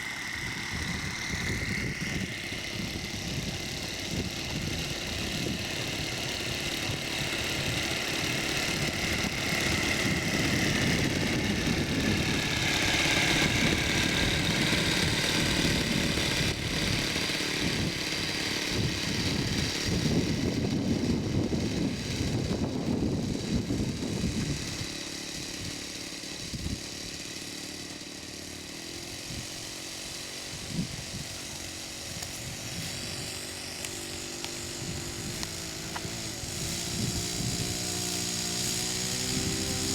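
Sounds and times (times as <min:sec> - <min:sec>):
model airplane engine running: 0:00.0 - 0:39.9.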